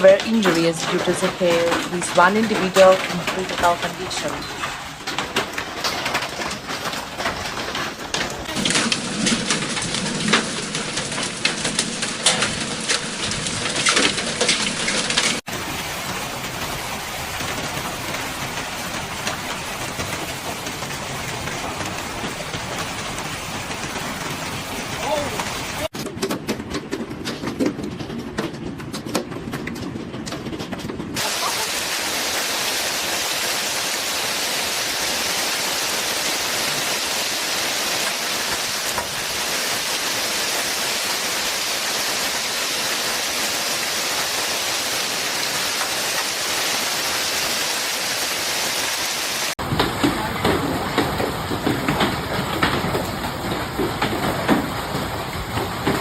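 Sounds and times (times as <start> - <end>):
hail and rain pelting: 0.0 - 56.0
hailstones striking hard surfaces: 0.0 - 56.0.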